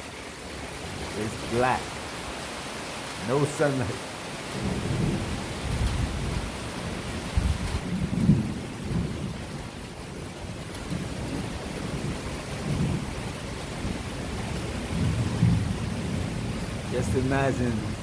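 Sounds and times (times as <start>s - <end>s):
rain hissing: 0.0s - 18.0s.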